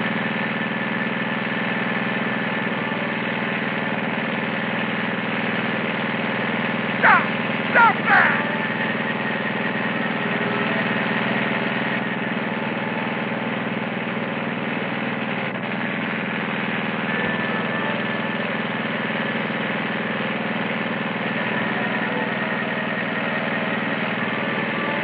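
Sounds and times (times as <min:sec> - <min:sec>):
lawn mower engine running: 0:00.2 - 0:25.0.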